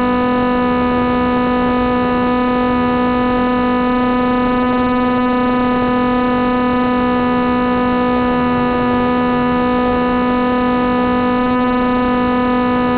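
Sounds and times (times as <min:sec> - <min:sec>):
electric motor spinning propeller: 0:00.0 - 0:12.9.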